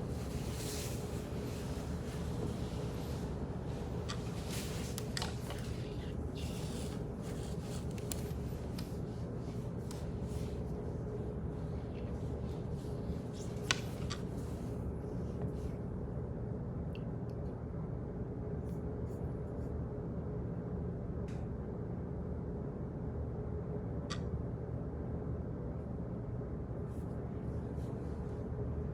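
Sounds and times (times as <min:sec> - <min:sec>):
low hum: 0:00.0 - 0:28.9.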